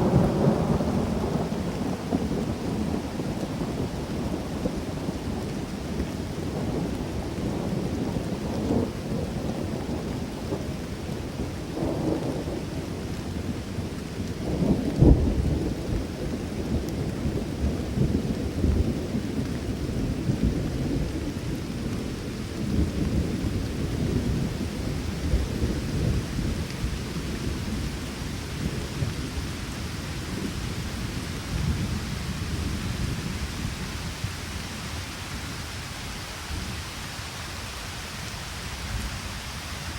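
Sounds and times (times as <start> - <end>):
rolling thunder: 0.0 - 34.6
steady rain: 0.0 - 39.9.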